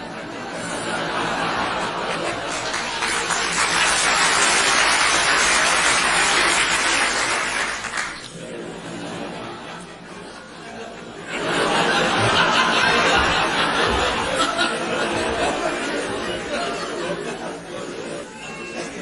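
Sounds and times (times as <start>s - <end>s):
crowd laughing: 0.0s - 19.0s.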